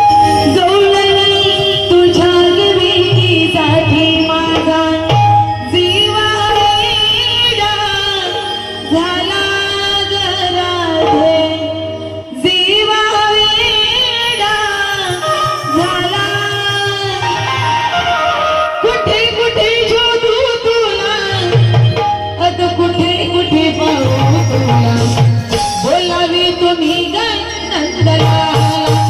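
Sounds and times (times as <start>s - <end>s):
harmonium accompaniment: 0.0s - 29.0s.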